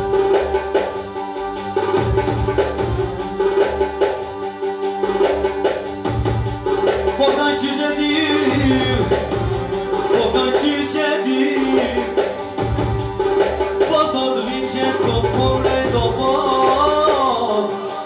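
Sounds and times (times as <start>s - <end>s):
drum beat: 0.0s - 18.0s
plucked strings: 0.0s - 18.0s.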